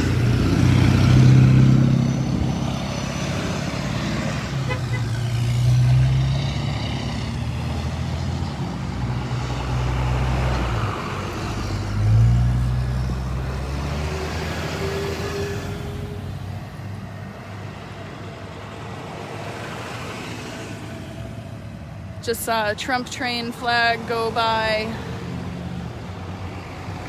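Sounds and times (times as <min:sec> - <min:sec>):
cars and trucks driving past: 0:00.0 - 0:27.0.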